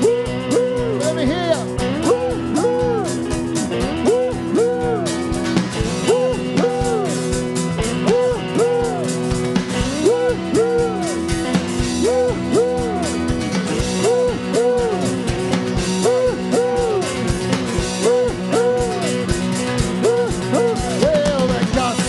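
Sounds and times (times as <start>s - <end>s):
voices calling woo-hoo: 0.0s - 1.2s, 2.0s - 5.4s, 6.0s - 21.3s
live band chugging groove: 0.0s - 22.0s.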